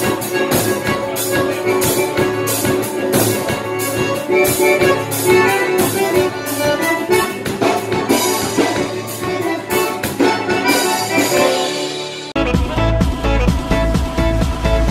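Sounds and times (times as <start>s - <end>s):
strummed acoustic guitar: 0.0s - 14.3s
accordion: 0.0s - 14.9s
drum kit steady beat: 0.0s - 14.9s.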